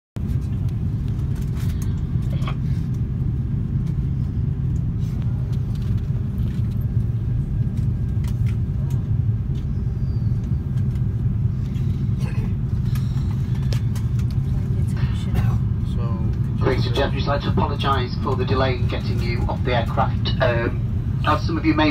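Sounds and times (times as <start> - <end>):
airliner cabin rumble: 0.2 - 21.9.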